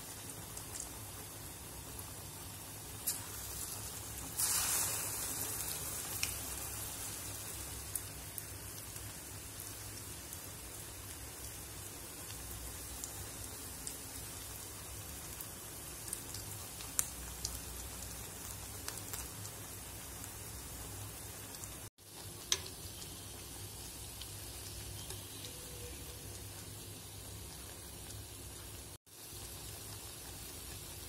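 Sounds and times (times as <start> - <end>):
fritters sizzling in hot oil: 0.0 - 31.0.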